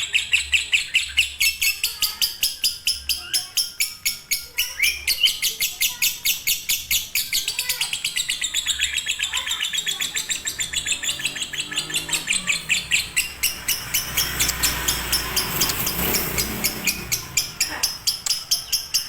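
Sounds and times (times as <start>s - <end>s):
lovebird chattering: 0.0s - 19.0s.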